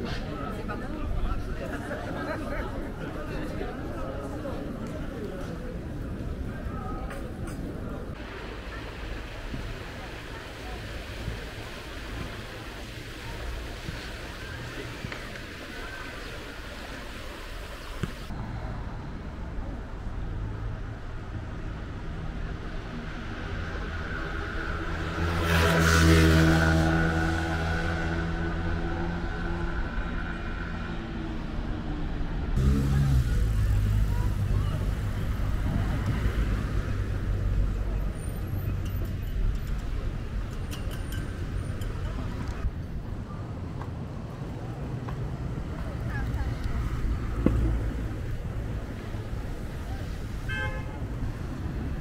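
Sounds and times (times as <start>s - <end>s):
cars passing on road: 0.0s - 52.0s
low rumble of traffic: 0.0s - 52.0s.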